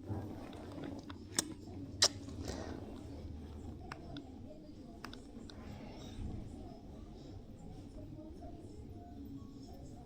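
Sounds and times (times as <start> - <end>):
low room noise: 0.0 - 10.0.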